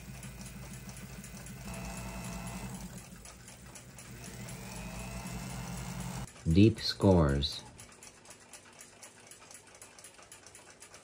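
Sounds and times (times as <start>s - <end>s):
lathe humming and ticking: 0.0s - 11.0s.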